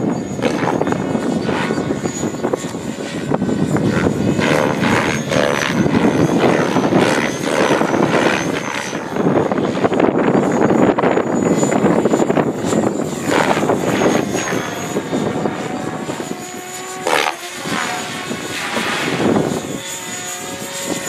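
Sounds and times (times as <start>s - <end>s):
helicopter rotor blades whooshing: 0.0s - 21.0s
high whine wavering in pitch: 0.0s - 21.0s.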